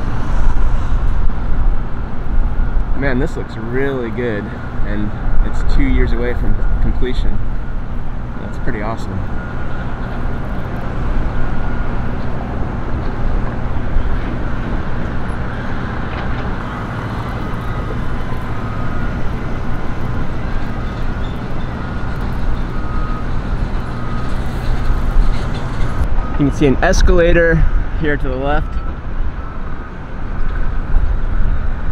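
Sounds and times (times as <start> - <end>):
car road and engine noise: 0.0 - 31.9.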